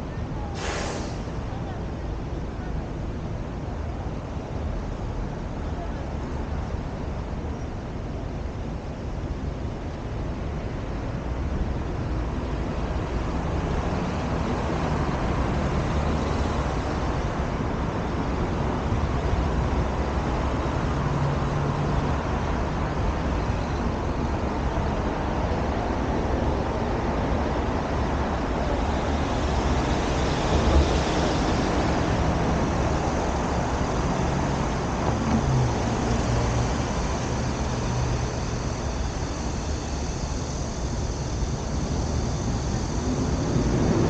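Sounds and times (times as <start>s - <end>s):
tyres on road: 0.0s - 44.0s
car engines humming: 8.4s - 44.0s.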